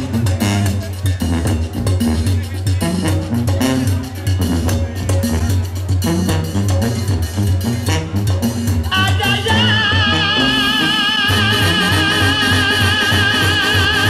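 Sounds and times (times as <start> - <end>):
trumpets with vibrato: 0.0 - 14.0
tuba bass line: 0.0 - 14.0.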